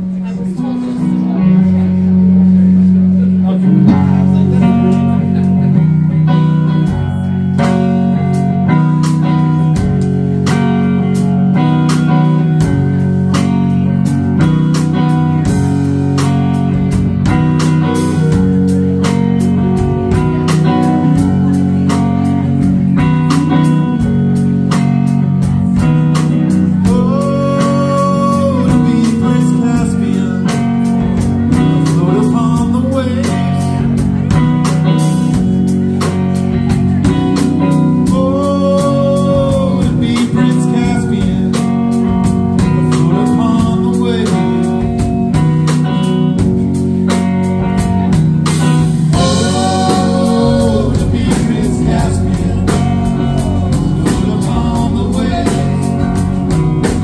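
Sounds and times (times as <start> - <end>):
electric bass: 0.0 - 57.0
electric guitar: 0.0 - 57.0
keyboard: 0.0 - 57.0
drum kit steady beat: 1.1 - 57.0.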